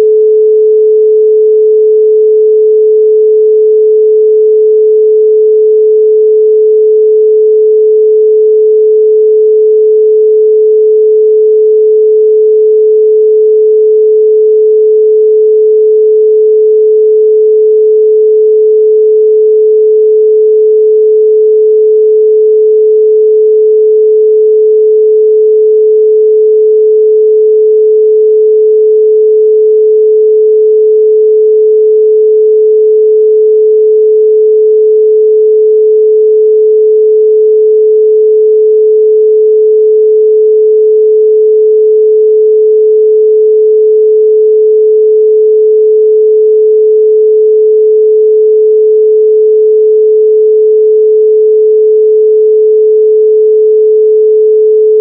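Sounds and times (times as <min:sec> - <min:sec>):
pure sine tone: 0:00.0 - 0:55.0.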